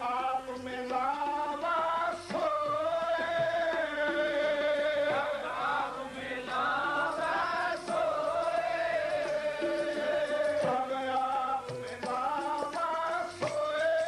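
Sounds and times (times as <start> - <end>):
harmonium: 0.0 - 14.0
men singing a hymn: 0.0 - 14.0.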